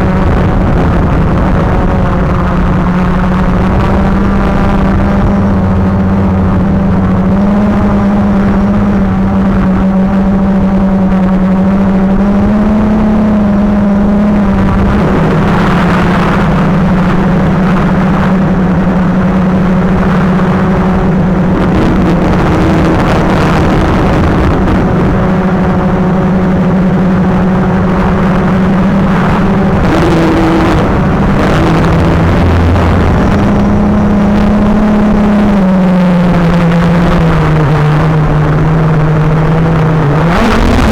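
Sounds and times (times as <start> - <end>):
drone propellers whining: 0.0 - 40.9
rushing noise: 0.0 - 40.9.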